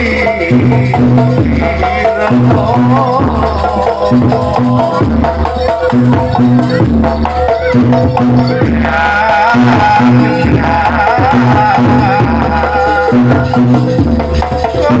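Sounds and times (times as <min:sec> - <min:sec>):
percussion ensemble rattling beat: 0:00.0 - 0:15.0
wavering ornamented melody: 0:00.0 - 0:15.0.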